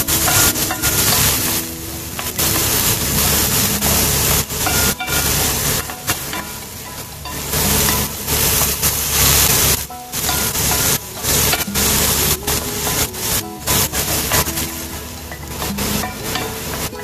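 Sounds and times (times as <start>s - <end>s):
meat sizzling: 0.0s - 17.0s.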